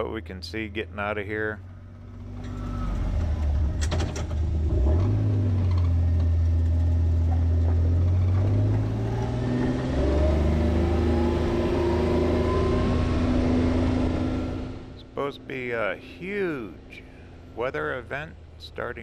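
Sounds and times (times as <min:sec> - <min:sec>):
vehicle engine and road drone: 0:00.0 - 0:19.0
rising engine whine: 0:01.3 - 0:19.0.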